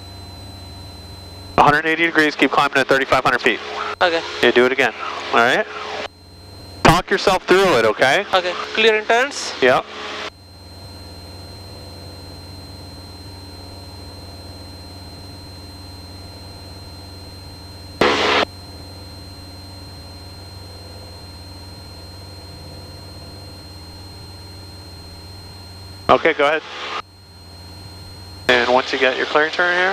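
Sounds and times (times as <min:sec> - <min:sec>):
airplane engine droning: 0:00.0 - 0:29.9
thin high whine: 0:00.0 - 0:29.9.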